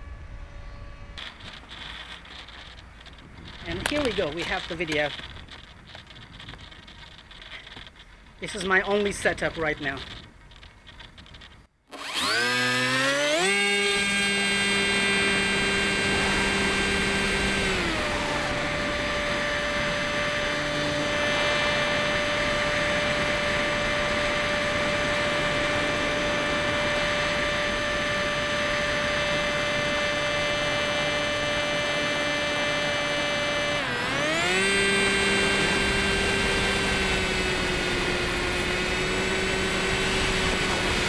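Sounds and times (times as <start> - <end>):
electric motor and propeller whine: 0.0 - 41.0.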